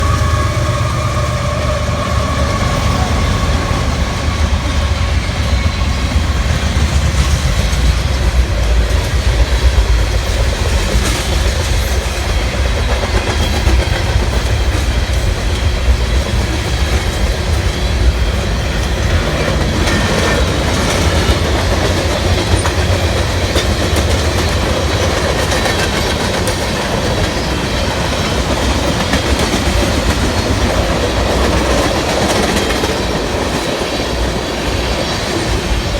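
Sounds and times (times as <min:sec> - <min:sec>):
freight train rumbling past: 0:00.0 - 0:35.9
wheels clacking over rail joints: 0:00.0 - 0:35.9.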